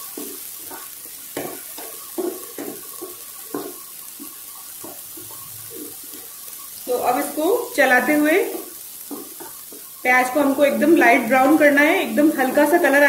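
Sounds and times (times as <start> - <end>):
onions sizzling in oil: 0.0 - 13.0
spatula scraping pan: 0.0 - 13.0.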